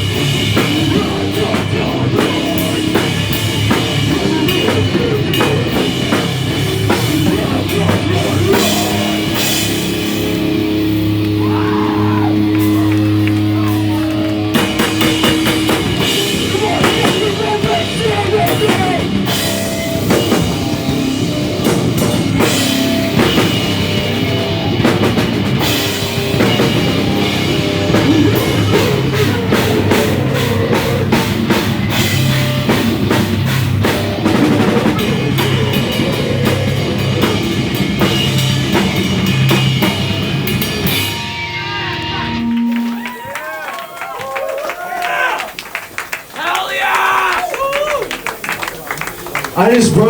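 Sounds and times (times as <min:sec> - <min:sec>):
drum kit pounding: 0:00.0 - 0:43.6
live rock band playing: 0:00.0 - 0:44.2.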